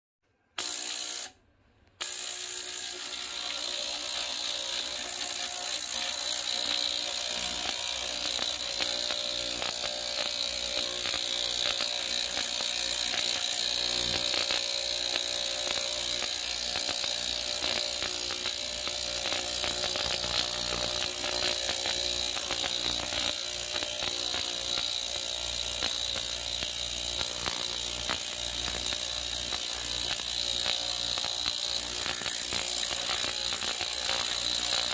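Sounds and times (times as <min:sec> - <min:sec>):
ultrasonic cleaner buzzing: 0:00.6 - 0:01.4, 0:02.0 - 0:34.9.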